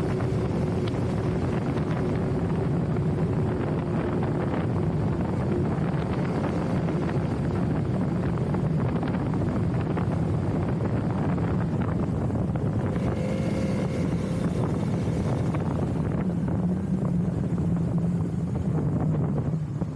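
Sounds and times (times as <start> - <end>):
motorbike engine hum: 0.0 - 19.9
road noise: 0.0 - 19.9
wind rushing over microphone: 0.0 - 19.9.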